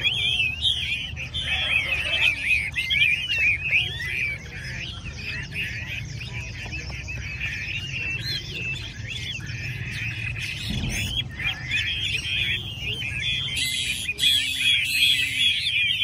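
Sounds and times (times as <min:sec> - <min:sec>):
birds singing in chorus: 0:00.0 - 0:16.0.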